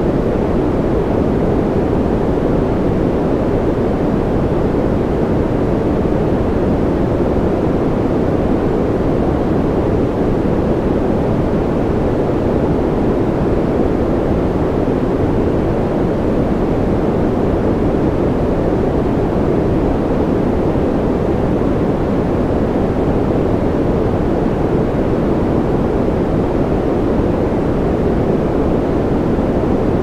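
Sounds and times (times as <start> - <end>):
low muffled white noise: 0.0 - 30.0.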